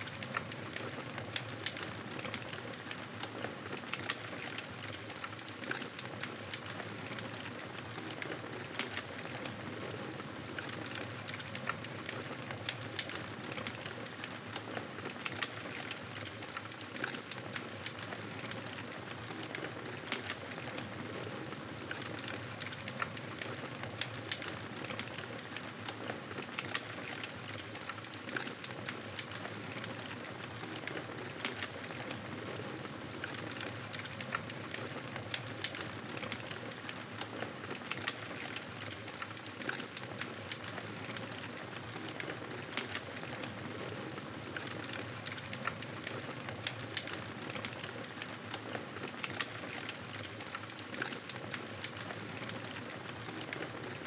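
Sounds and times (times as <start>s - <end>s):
campfire crackling and popping: 8.0s - 54.0s.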